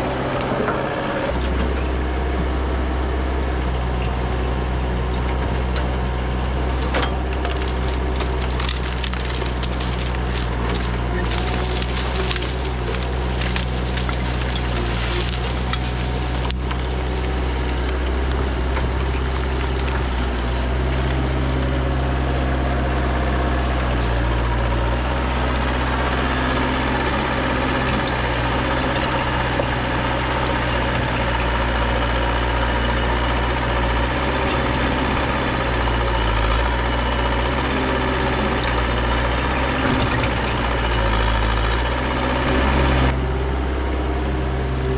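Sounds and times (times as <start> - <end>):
diesel engine running: 0.0 - 44.9
branches crackling and snapping: 6.6 - 43.2.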